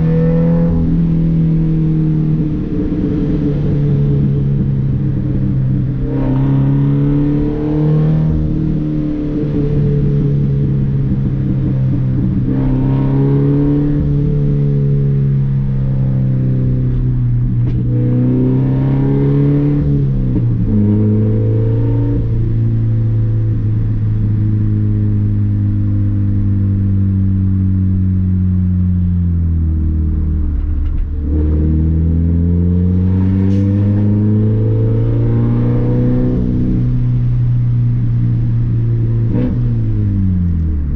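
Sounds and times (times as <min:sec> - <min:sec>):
loud car engine: 0:00.0 - 0:40.9.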